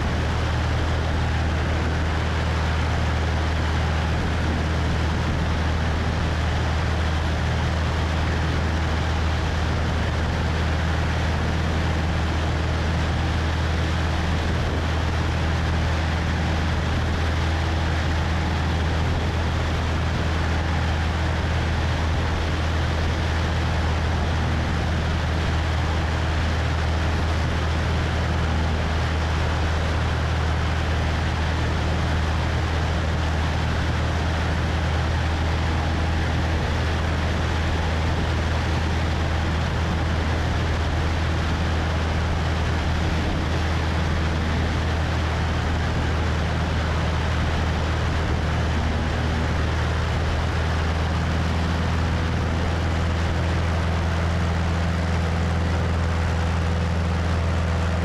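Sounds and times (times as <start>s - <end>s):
propeller plane engine drone: 0.0s - 58.0s
wind rushing over microphone: 0.0s - 58.0s.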